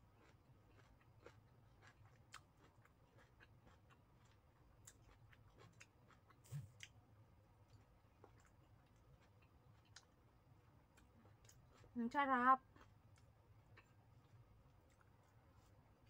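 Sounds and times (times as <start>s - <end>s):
faint chewing with mouth clicks: 0.0s - 16.0s.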